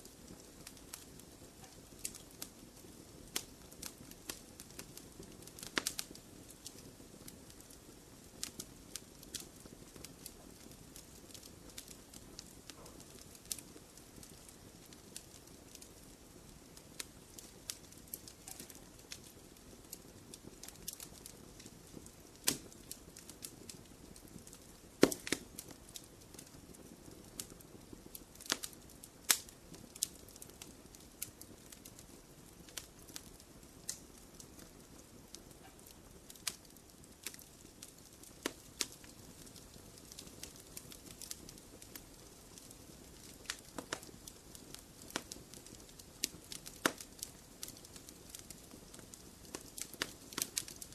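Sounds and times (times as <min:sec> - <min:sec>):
faint low hiss: 0:00.0 - 0:50.9
fire popping and snapping: 0:00.0 - 0:50.9
wood fire crackling: 0:00.0 - 0:50.9.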